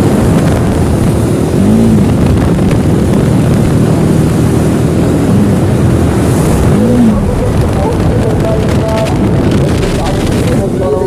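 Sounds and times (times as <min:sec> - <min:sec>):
wind roar on microphone: 0:00.0 - 0:11.0.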